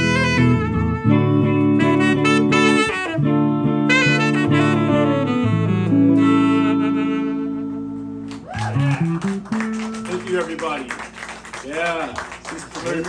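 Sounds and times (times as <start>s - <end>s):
bass line: 0.0s - 10.6s
saxophone melody: 0.0s - 11.6s.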